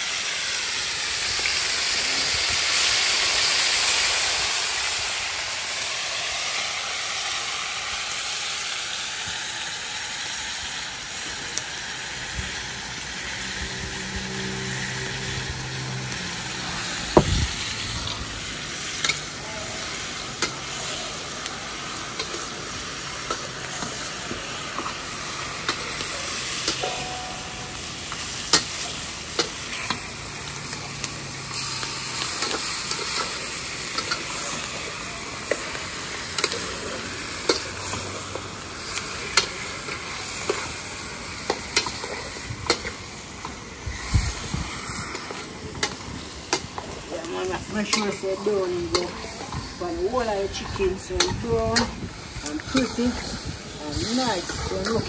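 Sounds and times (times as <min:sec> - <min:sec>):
meat sizzling in hot oil: 0:00.0 - 0:55.0.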